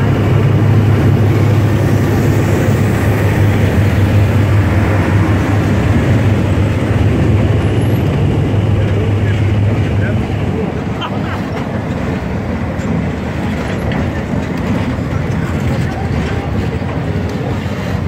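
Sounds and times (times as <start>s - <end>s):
diesel locomotive engine hum: 0.0s - 18.0s
train wheels on rails: 0.0s - 18.0s.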